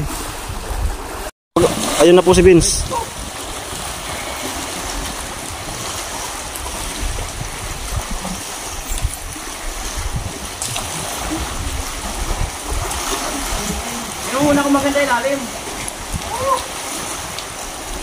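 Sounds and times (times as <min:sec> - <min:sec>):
sea water lapping around boat: 0:00.0 - 0:18.0.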